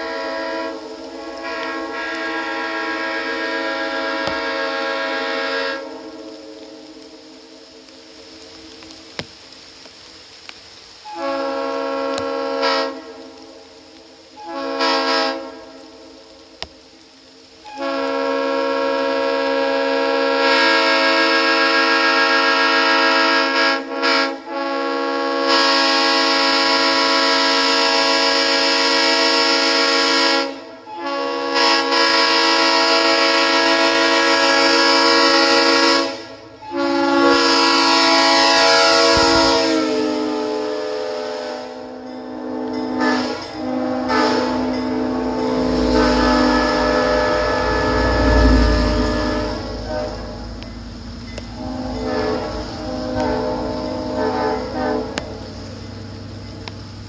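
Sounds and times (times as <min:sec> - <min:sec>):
locomotive air horn chord: 0:00.0 - 0:09.1, 0:11.0 - 0:13.7, 0:14.3 - 0:16.3, 0:17.6 - 0:56.3.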